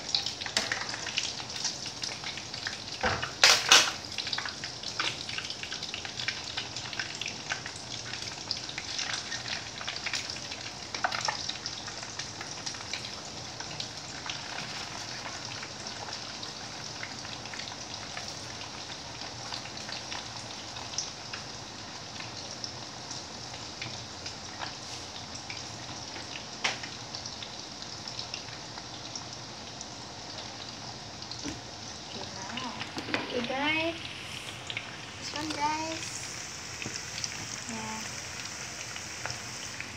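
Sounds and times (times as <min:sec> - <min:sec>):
meat sizzling in oil: 0:00.0 - 0:39.9.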